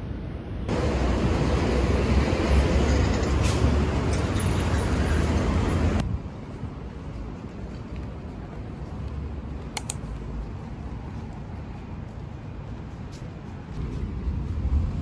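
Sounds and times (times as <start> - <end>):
quiet street hum: 0.0 - 15.0
passing vehicles rumbling: 0.2 - 15.0.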